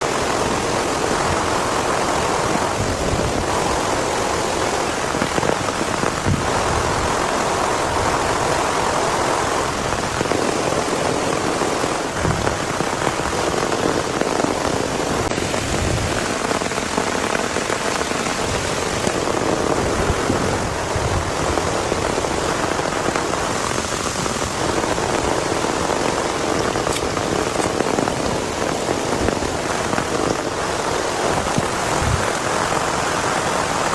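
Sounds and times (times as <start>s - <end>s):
rain pattering on surfaces: 0.0s - 33.9s.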